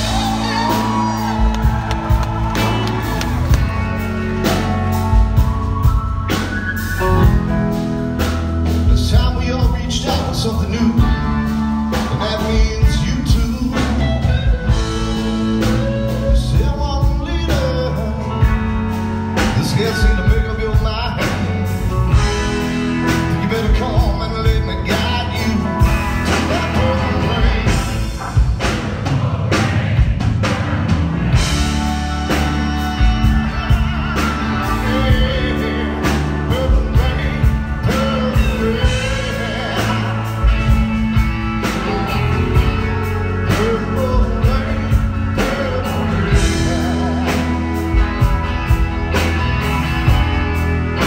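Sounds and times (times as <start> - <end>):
person singing lead vocal: 0.0 - 3.6, 8.8 - 30.2, 31.3 - 48.4
bass: 0.0 - 51.0
drums: 0.0 - 51.0
electric guitars: 0.0 - 51.0.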